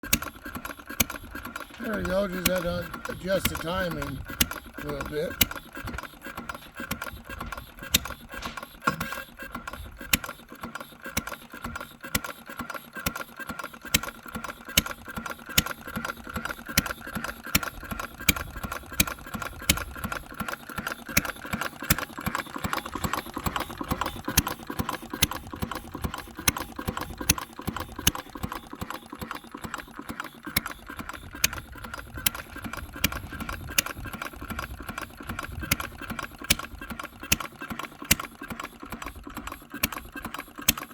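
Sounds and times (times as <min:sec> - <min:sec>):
engine sharp pops: 0:00.0 - 0:40.9
steady mechanical rattle: 0:00.0 - 0:40.9.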